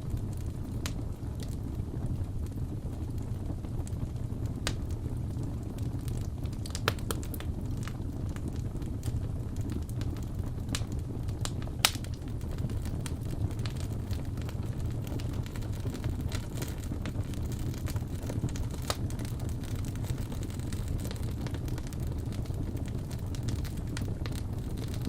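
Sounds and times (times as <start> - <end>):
fire pops: 0.0 - 25.0
wood fire crackling: 0.0 - 25.0.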